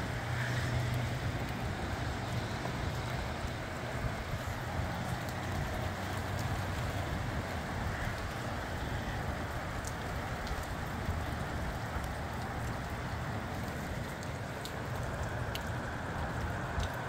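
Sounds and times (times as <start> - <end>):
rain hissing: 0.0 - 17.0
wind buffeting microphone: 0.0 - 17.0
raindrop ticks: 0.1 - 17.0.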